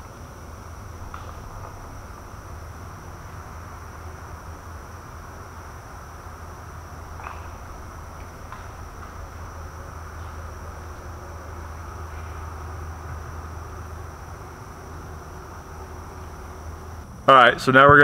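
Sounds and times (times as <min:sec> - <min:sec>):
low steady rumble: 0:00.0 - 0:18.0
night insects trilling: 0:00.0 - 0:18.0.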